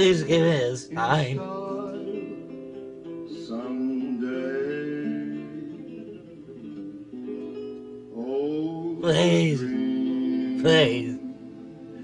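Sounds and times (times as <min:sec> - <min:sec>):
man singing: 0:00.0 - 0:07.5, 0:08.1 - 0:12.0
acoustic guitar playing: 0:00.0 - 0:12.0.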